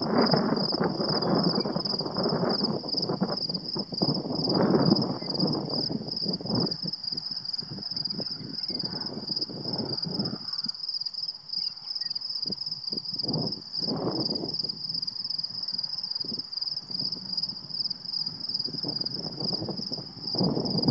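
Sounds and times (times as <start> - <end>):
wind gusting through grass: 0.0 - 20.9.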